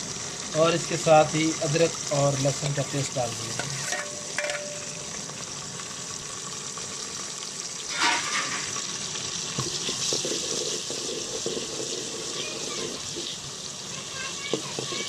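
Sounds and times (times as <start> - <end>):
food sizzling in hot fat: 0.0 - 15.0.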